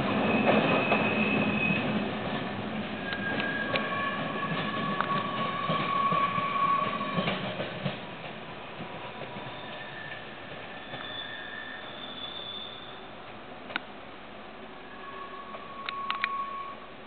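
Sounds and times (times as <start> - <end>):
train wheels squealing on rails: 0.0 - 8.2, 8.8 - 13.2, 14.7 - 16.9.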